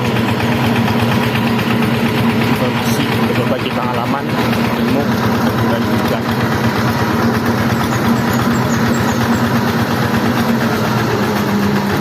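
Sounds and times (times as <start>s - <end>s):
diesel engine clattering: 0.0s - 12.0s.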